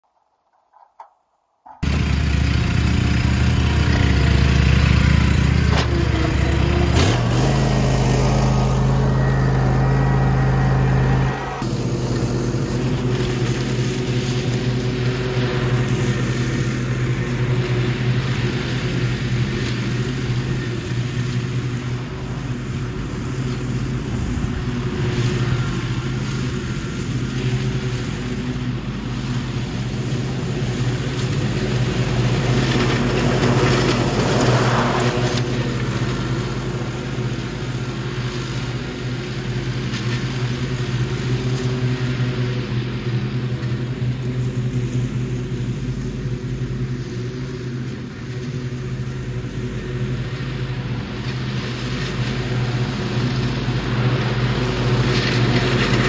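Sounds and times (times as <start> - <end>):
mower mulching dry leaves: 1.8 - 56.0
riding lawn mower engine: 1.8 - 56.0.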